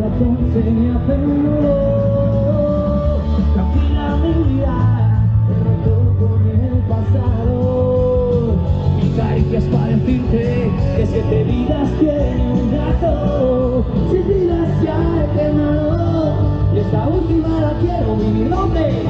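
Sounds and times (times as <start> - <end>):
person singing: 0.0 - 19.0
rock band playing live: 0.0 - 19.0.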